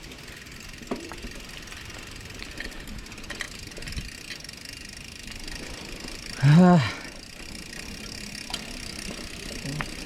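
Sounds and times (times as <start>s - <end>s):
bike clicks and rattles: 0.0s - 10.0s
mountain bike rumbling on dirt: 0.0s - 10.0s.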